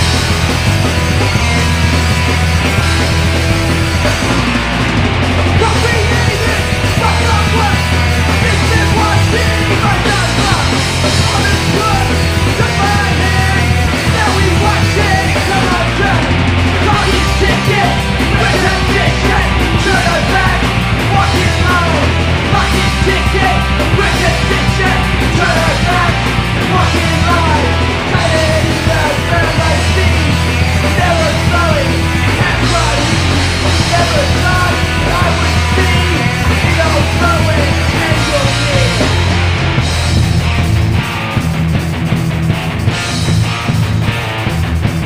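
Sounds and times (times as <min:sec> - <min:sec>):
punk band playing: 0:00.0 - 0:45.0.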